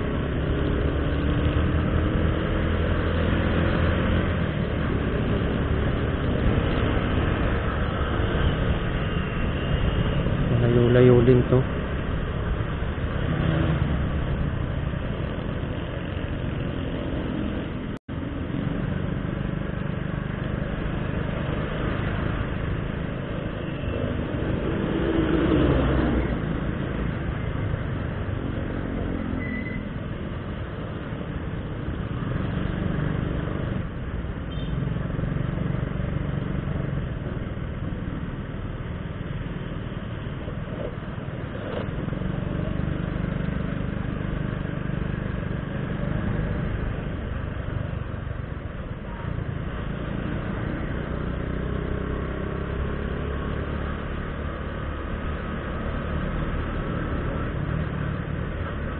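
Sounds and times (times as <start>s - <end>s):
road and wind noise: 0.0s - 58.9s.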